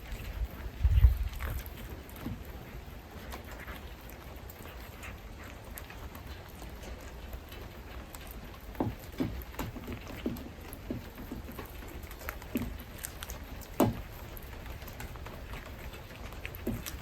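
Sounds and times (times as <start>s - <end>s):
cat chewing: 0.0s - 17.0s.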